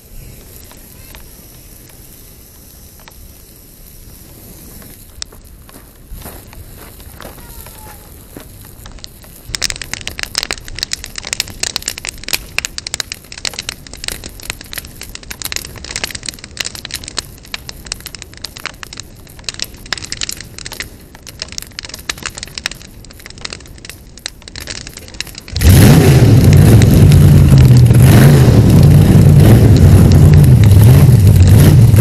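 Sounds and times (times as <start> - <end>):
fire crackling and popping: 0.0 - 32.0.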